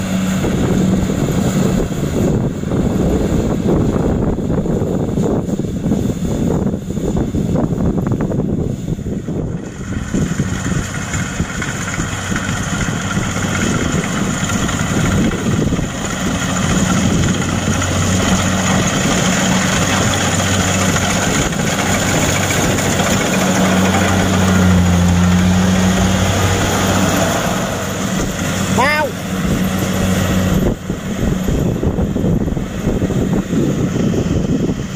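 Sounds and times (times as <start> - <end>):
cutter and threshing machinery: 0.0 - 34.9
diesel engine drone: 0.0 - 34.9.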